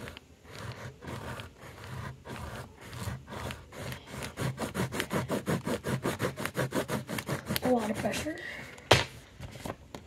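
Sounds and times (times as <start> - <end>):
pencil scribbling on card: 0.0 - 8.4.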